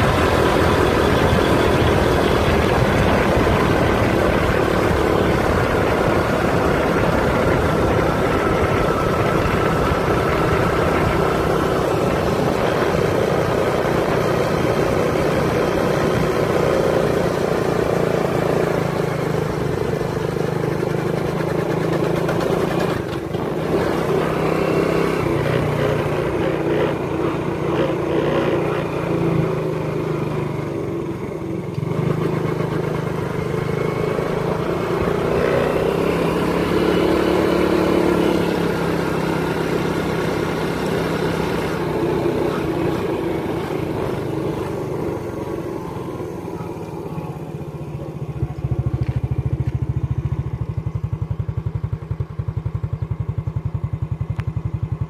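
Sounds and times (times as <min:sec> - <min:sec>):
road and wind noise: 0:00.0 - 0:55.0
vehicle engine running: 0:00.0 - 0:55.0.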